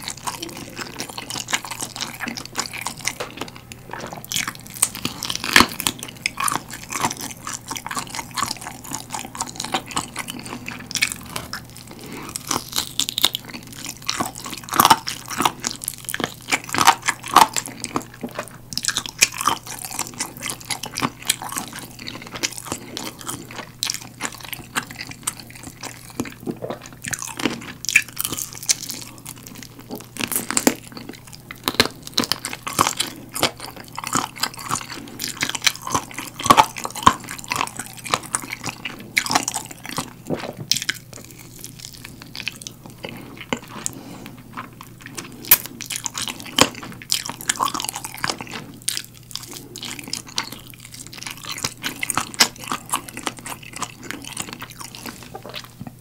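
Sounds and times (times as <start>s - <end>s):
biting and chewing chicken: 0.0s - 56.0s.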